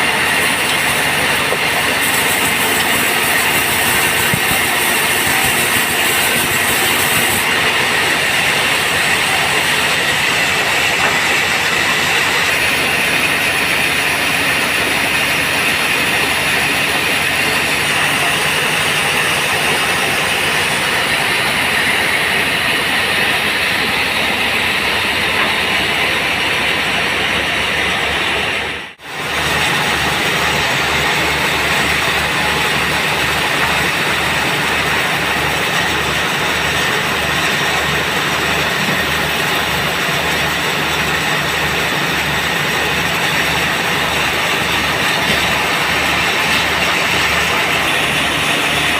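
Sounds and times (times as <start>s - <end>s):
band sawmill sawing wood: 0.0s - 48.9s.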